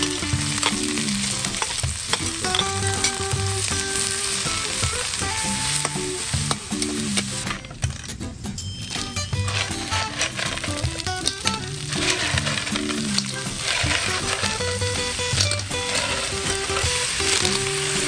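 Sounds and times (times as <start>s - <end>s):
metal spatula scraping a wok: 0.0s - 7.8s, 8.9s - 18.0s
onion sizzling in hot oil: 0.0s - 7.8s, 8.9s - 18.0s.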